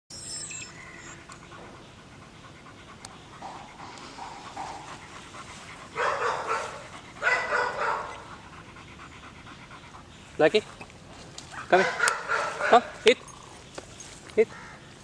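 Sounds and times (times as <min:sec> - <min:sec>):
dog panting: 0:00.8 - 0:14.3.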